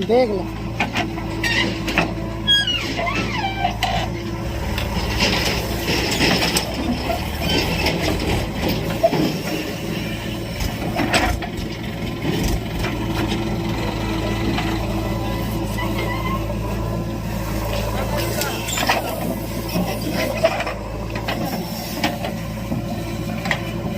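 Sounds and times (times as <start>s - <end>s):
backhoe diesel engine running: 0.0s - 23.9s.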